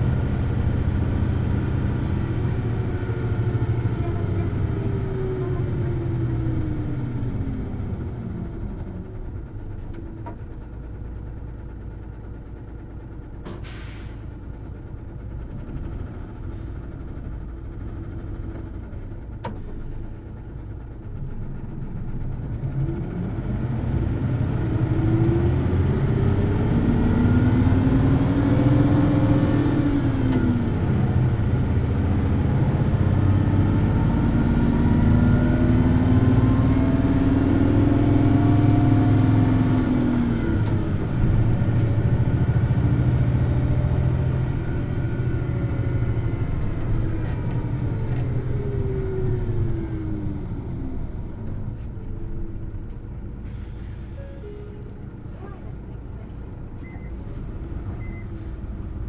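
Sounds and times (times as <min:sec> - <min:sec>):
bus engine revving: 0:00.0 - 0:10.0, 0:21.1 - 0:59.0.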